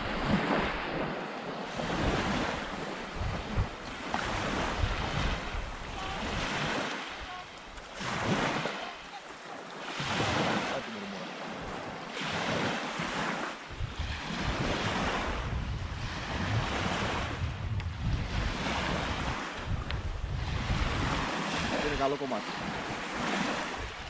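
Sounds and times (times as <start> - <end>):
wind rumble on microphone: 0.0 - 8.7, 11.6 - 24.0
small waves washing on shore: 0.0 - 24.0.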